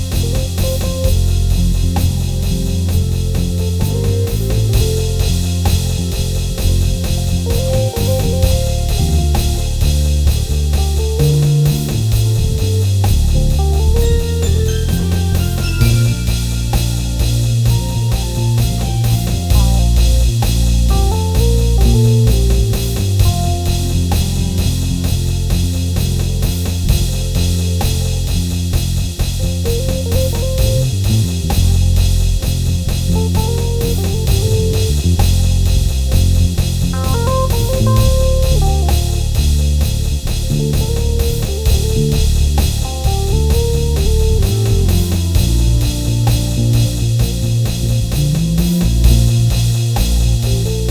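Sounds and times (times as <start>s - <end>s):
gospel keyboard chords: 0.0s - 30.9s, 31.6s - 50.9s
drum kit beat: 0.0s - 50.9s
heavy sustained bass: 0.0s - 50.9s.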